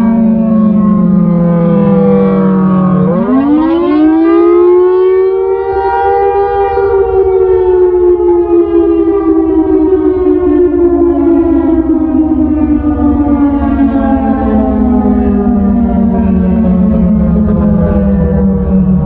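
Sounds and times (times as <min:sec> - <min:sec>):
electronic siren wailing: 0:00.0 - 0:19.0.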